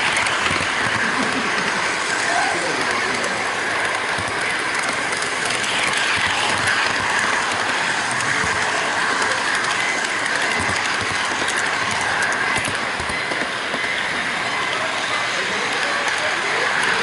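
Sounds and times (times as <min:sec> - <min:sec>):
model train wheels rolling on rails: 0:00.0 - 0:17.0.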